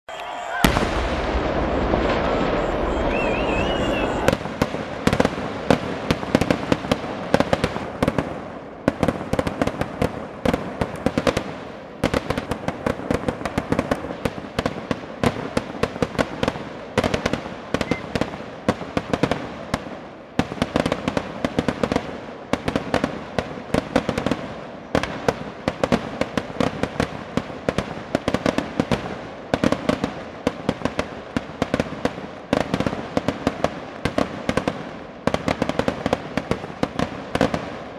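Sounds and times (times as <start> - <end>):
fireworks bangs and crackles: 0.2 - 37.9.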